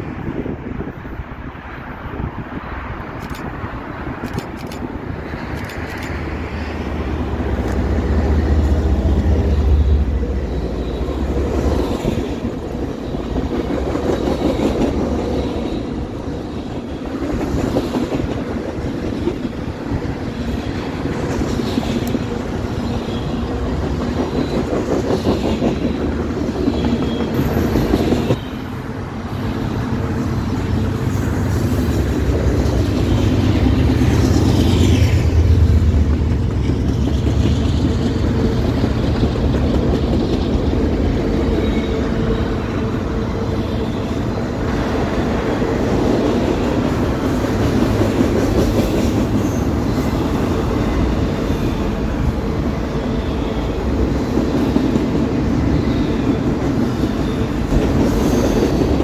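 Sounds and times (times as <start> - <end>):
diesel locomotive engine: 0.0 - 59.0
train wheels clattering on rails: 7.2 - 28.5, 30.9 - 59.0.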